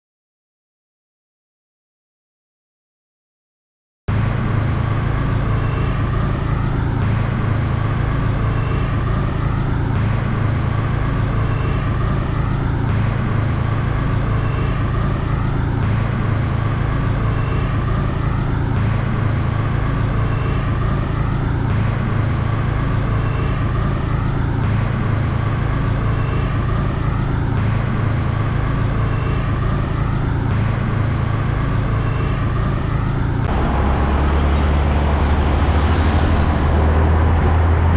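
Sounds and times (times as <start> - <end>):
engine and traffic noise: 4.1 - 37.9.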